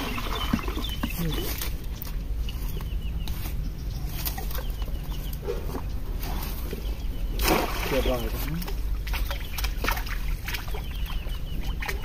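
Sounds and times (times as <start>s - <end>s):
birds calling faintly: 0.0s - 12.0s.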